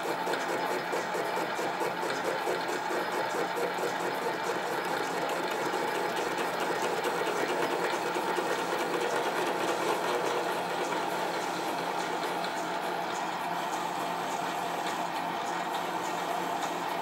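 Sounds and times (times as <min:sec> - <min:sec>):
lathe machine whirr: 0:00.0 - 0:17.0.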